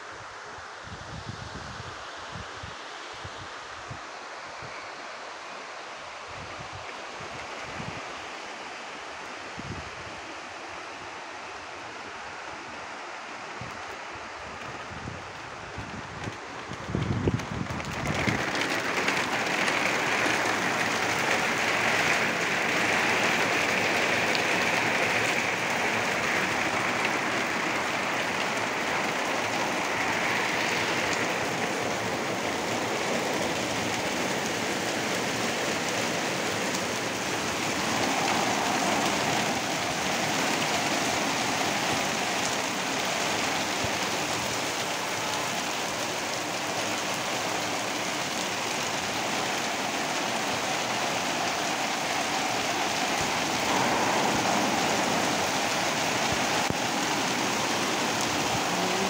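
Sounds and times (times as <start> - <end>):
heavy rain on concrete: 0.0 - 59.0.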